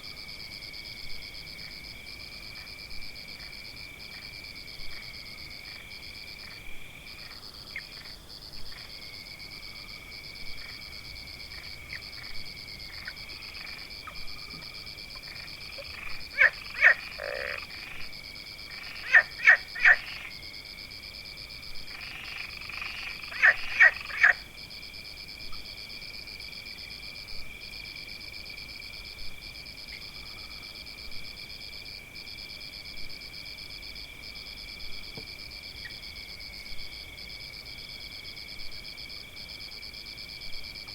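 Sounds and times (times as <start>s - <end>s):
frogs croaking: 0.7s - 40.9s.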